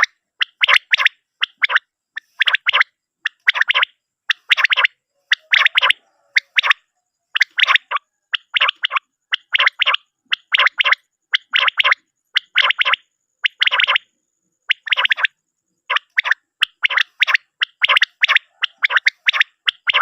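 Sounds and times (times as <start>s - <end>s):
quail calling: 0.0s - 14.1s, 14.7s - 20.0s.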